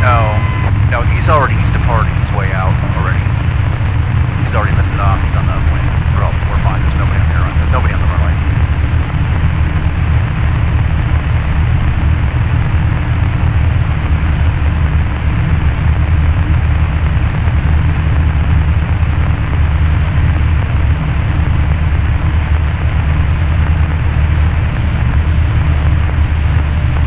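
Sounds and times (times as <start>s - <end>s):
airplane engine drone in cabin: 0.0s - 27.0s.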